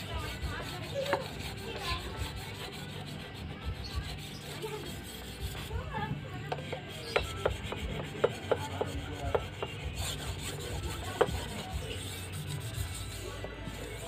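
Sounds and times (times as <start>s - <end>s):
blade scraping on whetstone: 0.0s - 14.0s.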